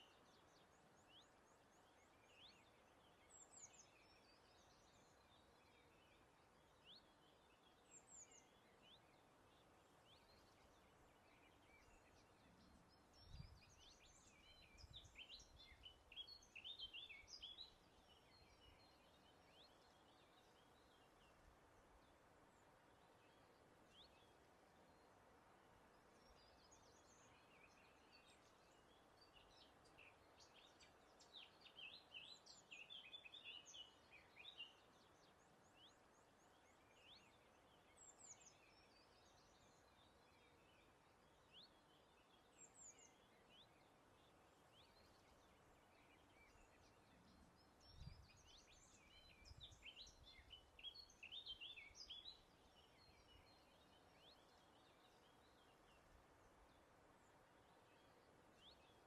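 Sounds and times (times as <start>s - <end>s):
faint steady breeze: 0.0s - 59.0s
songbirds chirping and trilling: 0.0s - 59.0s.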